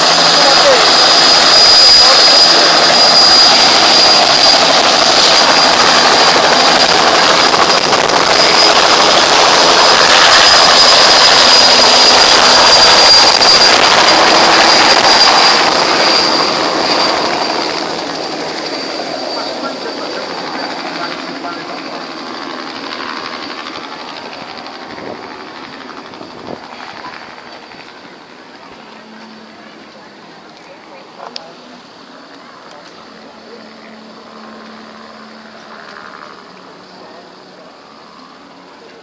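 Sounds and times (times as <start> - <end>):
helicopter rotor noise: 0.0 - 39.0
helicopter turbine whine: 0.0 - 39.0.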